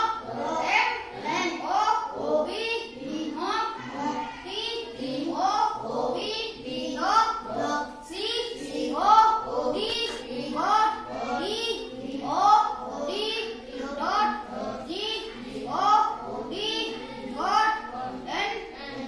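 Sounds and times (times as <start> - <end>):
child chanting words: 0.0 - 19.0.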